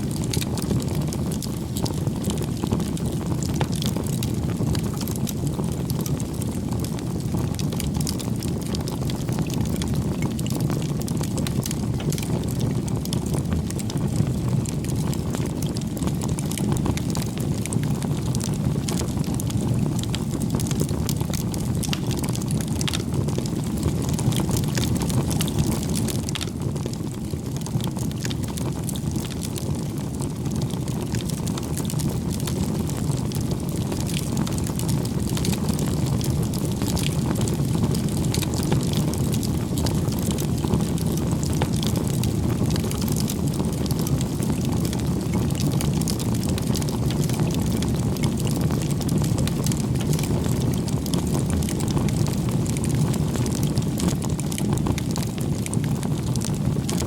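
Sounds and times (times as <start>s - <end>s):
wood crackling and popping: 0.0s - 57.0s
bonfire flames rushing: 0.1s - 57.0s.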